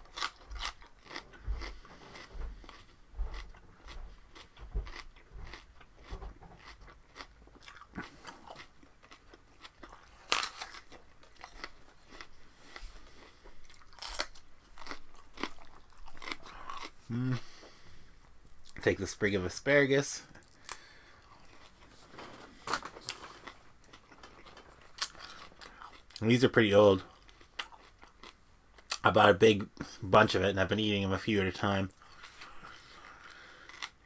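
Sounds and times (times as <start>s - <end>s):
person chewing raw vegetables: 0.0s - 18.8s, 20.3s - 26.4s, 27.0s - 29.2s, 31.9s - 34.0s.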